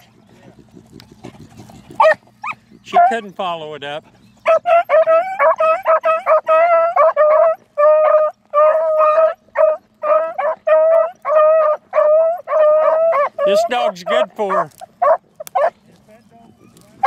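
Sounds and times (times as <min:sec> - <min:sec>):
beagles baying: 0:00.0 - 0:17.0.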